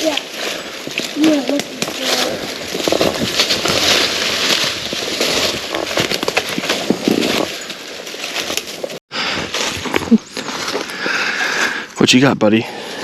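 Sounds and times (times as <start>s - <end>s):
footsteps crunching through dry leaves: 0.0s - 11.8s.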